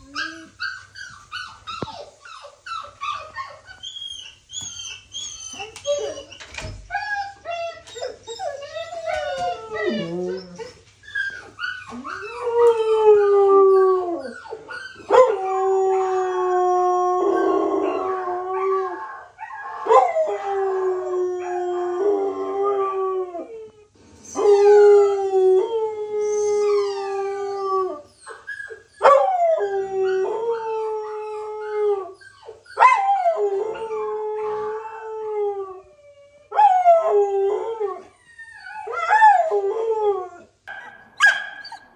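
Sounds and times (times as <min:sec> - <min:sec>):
puppy whining howls: 0:00.0 - 0:41.9.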